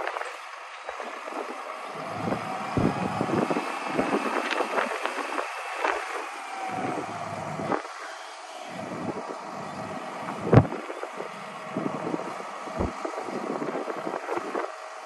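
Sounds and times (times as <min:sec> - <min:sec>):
diesel truck engine running: 0:00.0 - 0:15.0
faint whine: 0:00.0 - 0:15.0
hydraulic boom working: 0:00.0 - 0:15.0
wind buffeting microphone: 0:00.0 - 0:15.0.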